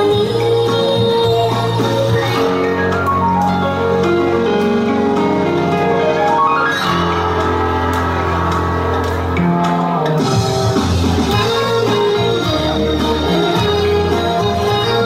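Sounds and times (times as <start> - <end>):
pop dance music: 0.0 - 15.0.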